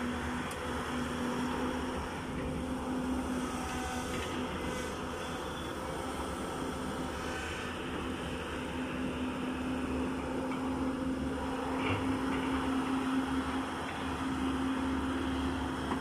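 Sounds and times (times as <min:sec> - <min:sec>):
excavator diesel engines running: 0:00.0 - 0:16.0.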